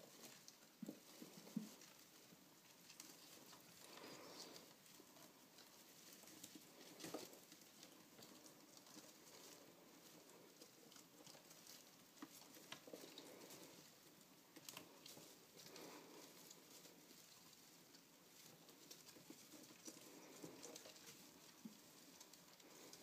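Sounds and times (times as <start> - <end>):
mice scrambling through hay: 0.0 - 23.0.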